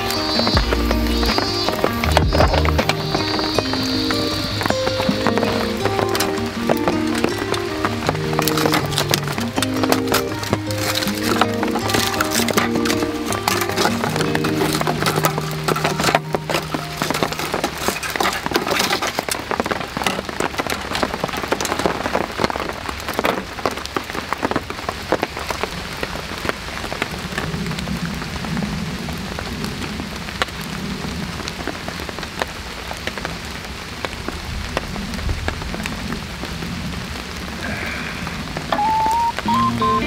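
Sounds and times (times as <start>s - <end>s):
heavy rain pattering: 0.0s - 40.0s.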